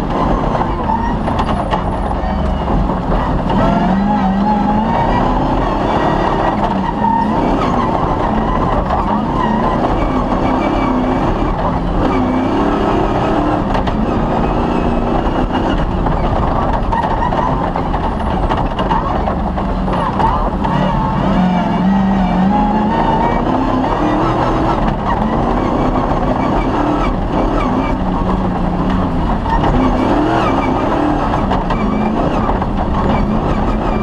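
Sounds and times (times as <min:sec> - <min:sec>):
loud constant rumble: 0:00.0 - 0:34.0
rally car engine revving: 0:00.0 - 0:34.0.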